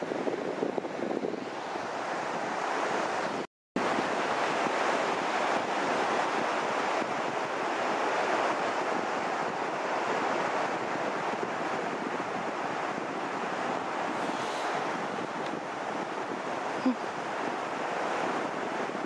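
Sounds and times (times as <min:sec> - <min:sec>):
surf from breaking waves: 0:00.0 - 0:19.0
wind on microphone: 0:00.0 - 0:19.0.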